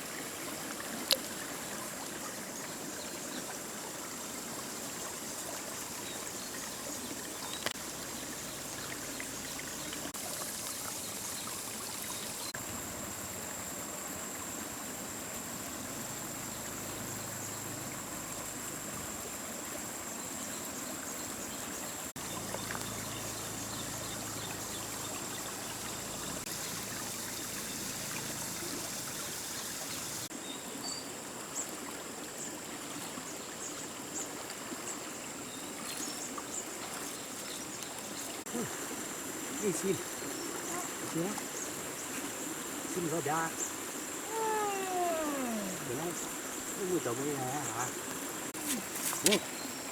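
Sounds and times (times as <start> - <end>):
flowing stream water: 0.0 - 49.9.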